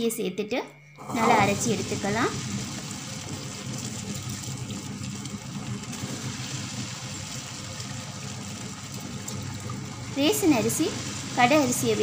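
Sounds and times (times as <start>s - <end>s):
motor hum: 1.0s - 12.0s
wet grinder drum turning: 1.0s - 12.0s.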